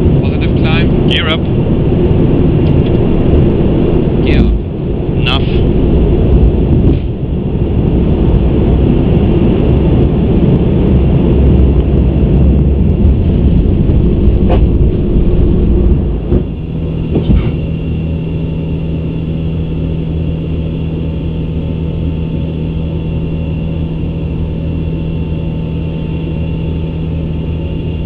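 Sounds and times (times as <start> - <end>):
airflow and engine rumble: 0.0 - 28.0
steady low hum: 0.0 - 28.0.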